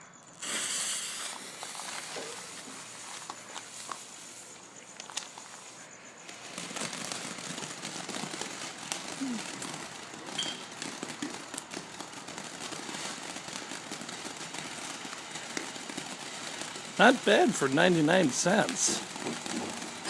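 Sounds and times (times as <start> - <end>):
firework fountain hissing: 0.0 - 20.0
crackling pops: 0.3 - 20.0.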